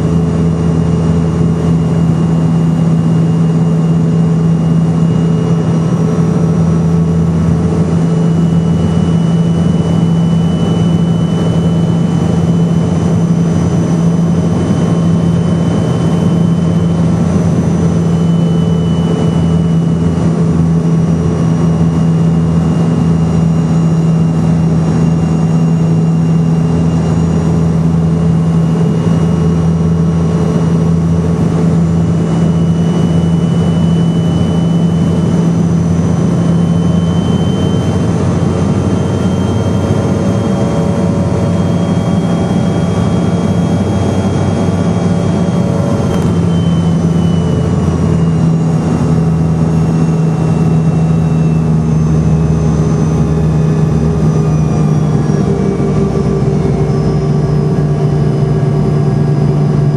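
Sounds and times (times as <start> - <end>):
airliner cabin drone: 0.0 - 59.9
high engine whine: 0.0 - 59.9.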